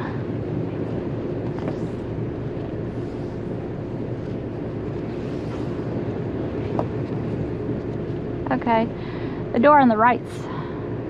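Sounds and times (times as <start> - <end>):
boat engines humming: 0.0 - 11.0.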